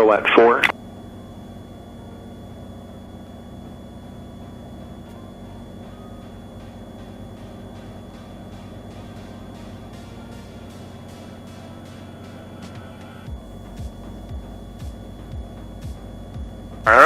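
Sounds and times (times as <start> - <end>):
piston engine and propeller droning: 0.7 - 17.0.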